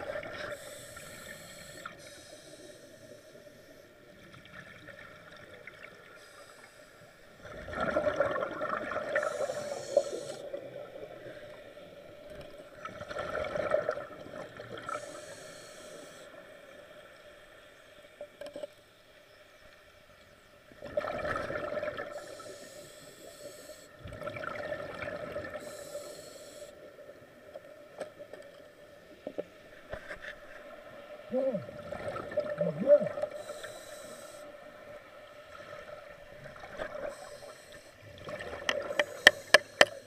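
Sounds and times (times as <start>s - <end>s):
faint steady hum: 0.0s - 40.0s
underwater bubbling and gurgling: 0.0s - 40.0s.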